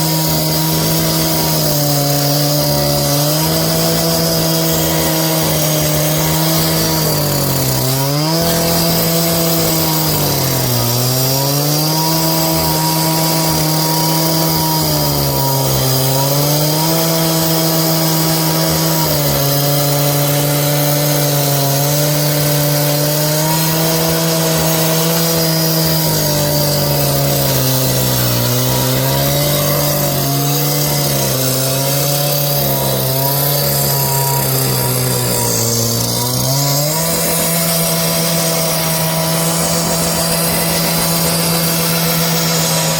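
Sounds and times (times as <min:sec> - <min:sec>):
power saw cutting: 0:00.0 - 0:42.9.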